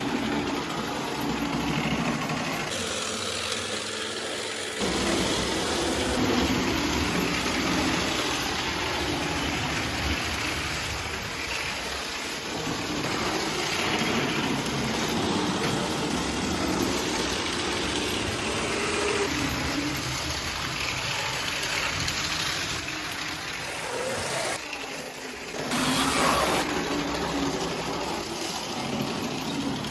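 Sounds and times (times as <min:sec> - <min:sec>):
moving train running: 0:00.0 - 0:29.9.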